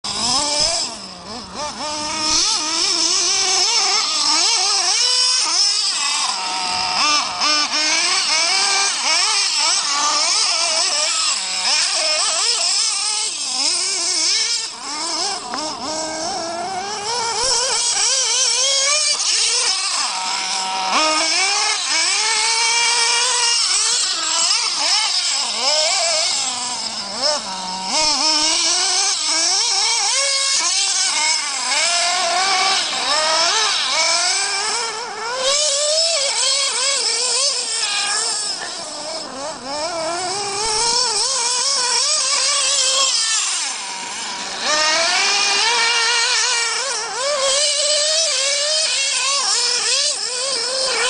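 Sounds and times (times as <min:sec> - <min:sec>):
model truck engine revving: 0:00.0 - 0:51.0.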